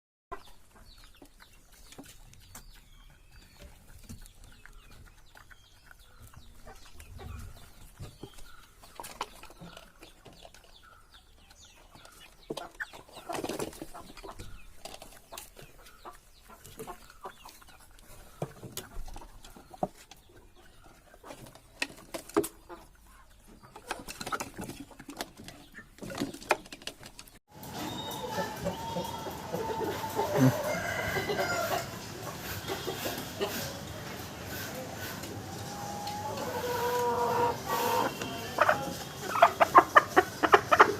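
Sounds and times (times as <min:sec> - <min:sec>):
chickens clucking: 0:00.3 - 0:40.9.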